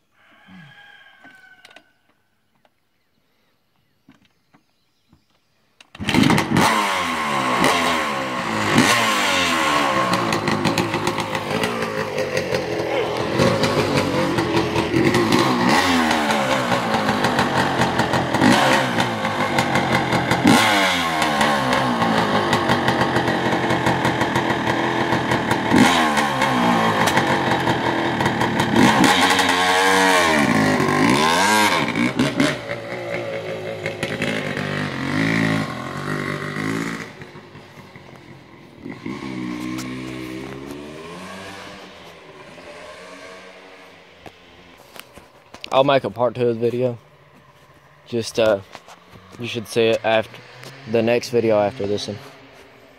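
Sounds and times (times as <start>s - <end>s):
dirt bike engine revving: 6.0s - 52.9s.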